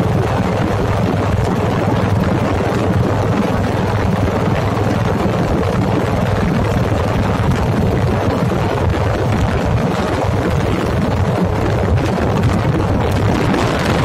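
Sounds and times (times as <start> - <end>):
road and wind noise: 0.0 - 14.0
vehicle engine drone: 0.0 - 14.0.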